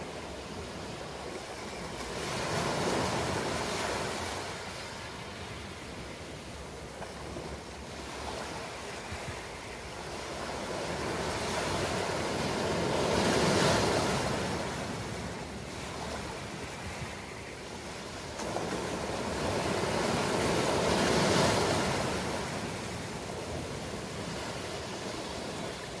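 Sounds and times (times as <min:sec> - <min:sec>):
surf washing ashore: 0:00.0 - 0:26.0.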